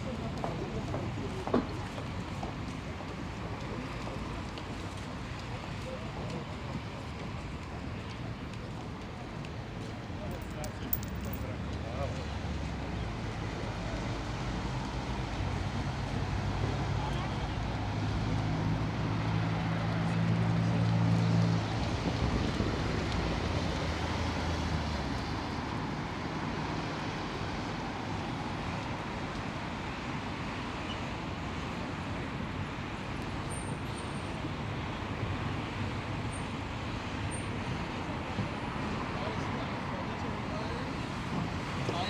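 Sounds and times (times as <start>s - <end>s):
street traffic: 0.0s - 42.0s.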